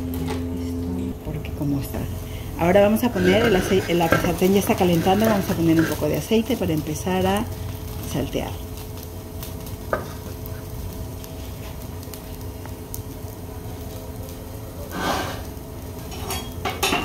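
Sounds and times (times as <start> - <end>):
stove burner humming: 0.0 - 17.0.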